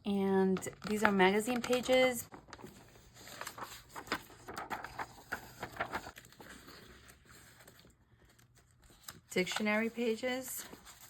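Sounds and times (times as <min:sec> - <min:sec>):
paper pages rustling: 0:00.6 - 0:11.0.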